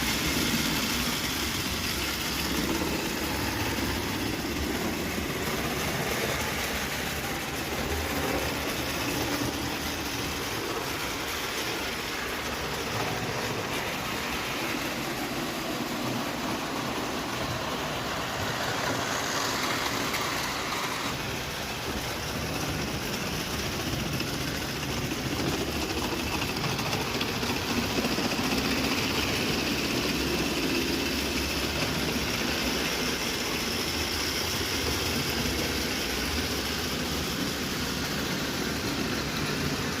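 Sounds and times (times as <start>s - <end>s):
toy steam locomotive running: 0.0s - 40.0s.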